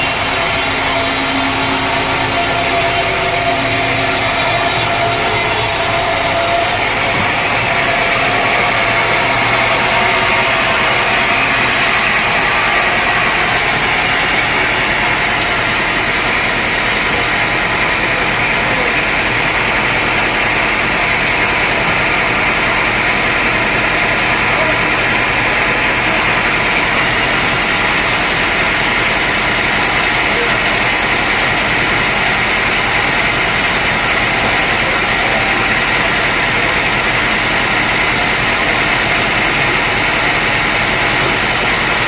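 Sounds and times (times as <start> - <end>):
saw cutting through wood: 0.0 - 42.0.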